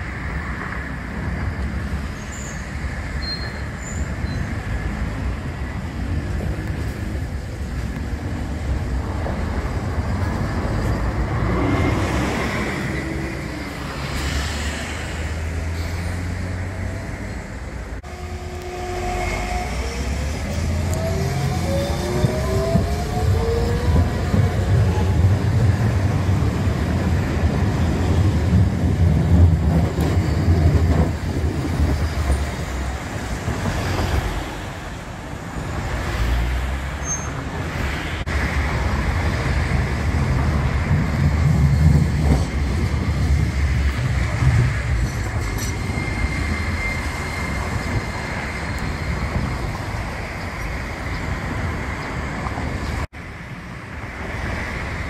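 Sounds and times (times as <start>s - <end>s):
streetcar rumbling on rails: 0.0s - 55.0s
cars passing: 4.4s - 55.0s.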